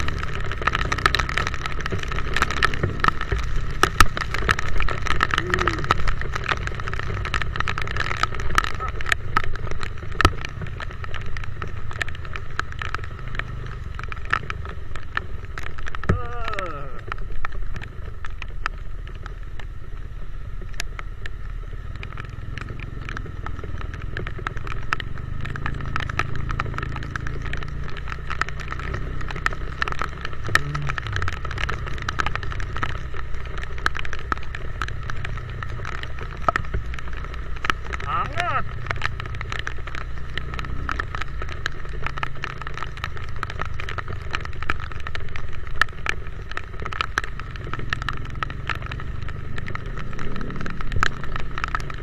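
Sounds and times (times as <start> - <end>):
motorcycle engine and road rumble: 0.0 - 52.0
raindrops hitting microphone: 0.0 - 52.0.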